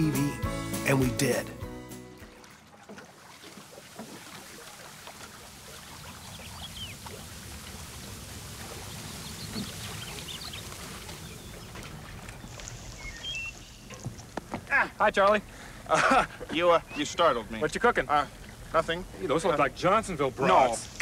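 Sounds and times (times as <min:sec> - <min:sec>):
stream water over rocks: 0:02.1 - 0:21.0.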